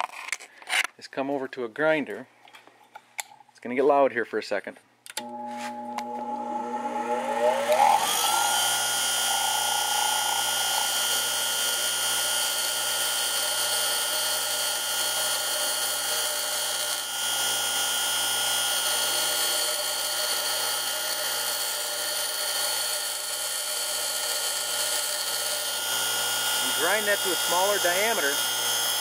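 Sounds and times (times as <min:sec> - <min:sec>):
bench grinder whining: 0:05.2 - 0:29.0.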